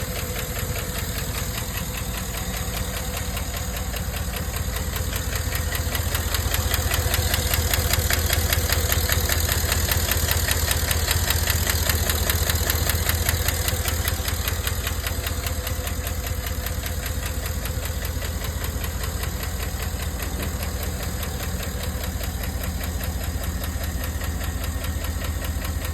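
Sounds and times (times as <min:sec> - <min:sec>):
car engine hum: 0:00.0 - 0:25.9
rapid engine ticking: 0:00.0 - 0:25.9.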